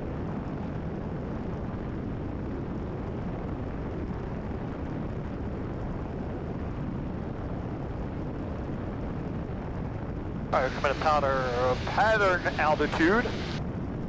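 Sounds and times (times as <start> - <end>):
light aircraft engine and propeller: 0.0 - 14.0.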